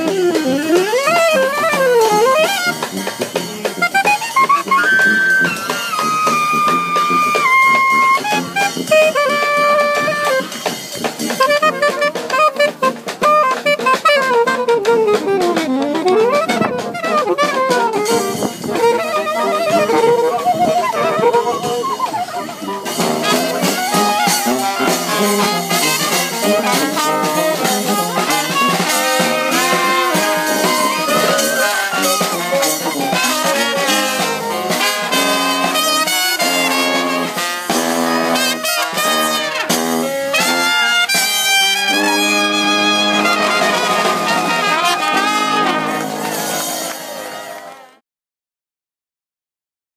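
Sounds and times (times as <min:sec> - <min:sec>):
horn line sliding in pitch: 0:00.0 - 0:10.6, 0:11.3 - 0:47.8
snare drum and cymbal: 0:00.0 - 0:47.6
brass band playing: 0:00.0 - 0:48.0.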